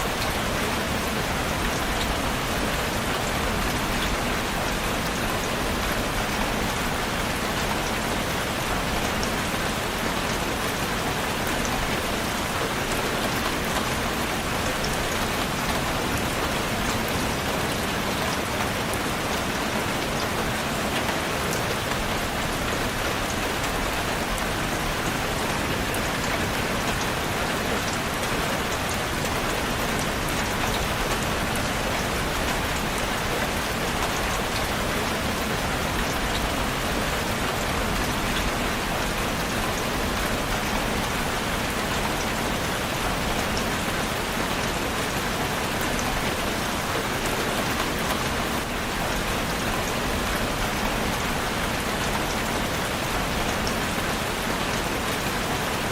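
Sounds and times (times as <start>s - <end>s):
rain falling on a surface: 0.0s - 55.9s.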